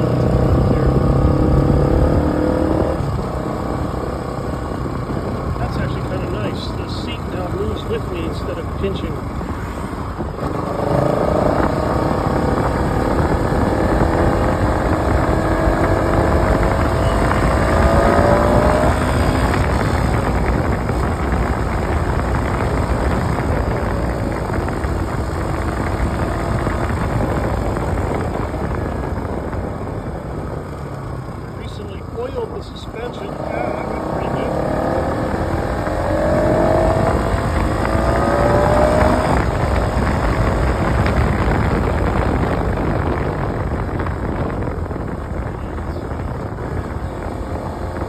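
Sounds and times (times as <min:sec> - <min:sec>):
motorcycle engine running: 0:00.0 - 0:48.0
wind noise on microphone: 0:00.0 - 0:48.0.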